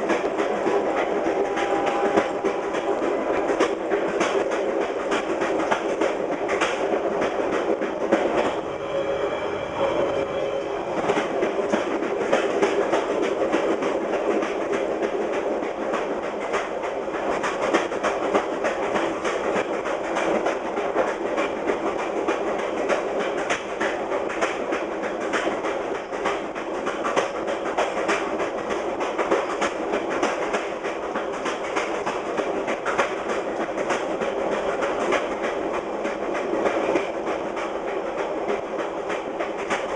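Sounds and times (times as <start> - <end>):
train wheels clicking over rail joints: 0.0 - 8.6, 10.6 - 39.9.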